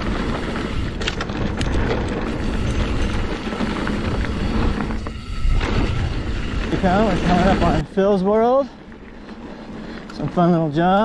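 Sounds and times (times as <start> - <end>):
bike rattling: 0.0 - 11.0
bike tyres on rough ground: 0.0 - 11.0.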